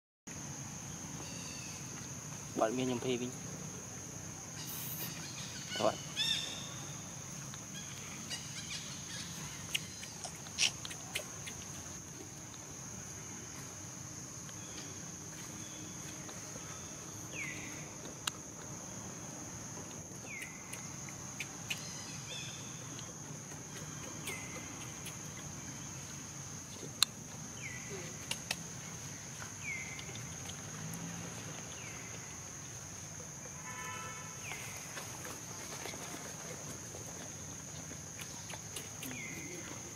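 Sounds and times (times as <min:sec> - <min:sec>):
high insect drone: 0:00.3 - 0:39.9.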